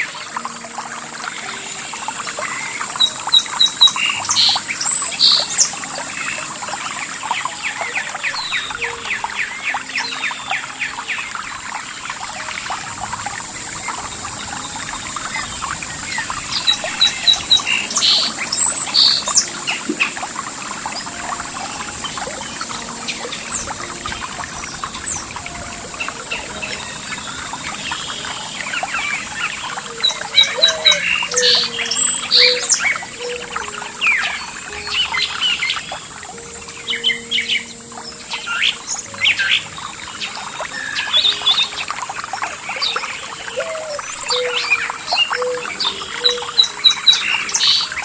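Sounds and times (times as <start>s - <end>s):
birds chirping and singing: 0.0s - 48.0s
trickling water: 0.0s - 48.0s.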